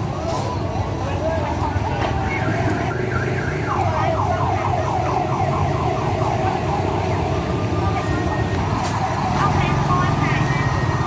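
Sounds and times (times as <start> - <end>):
low rumble of engines: 0.0 - 11.0.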